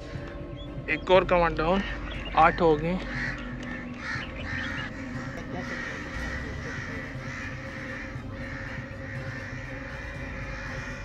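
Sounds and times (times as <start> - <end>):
crows cawing: 1.8 - 11.0.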